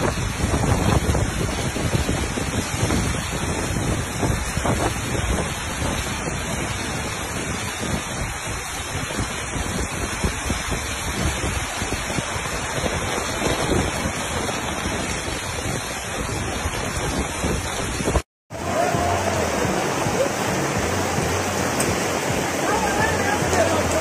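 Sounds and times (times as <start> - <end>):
heavy rain rushing: 0.0 - 24.0
wind buffeting microphone: 0.0 - 24.0.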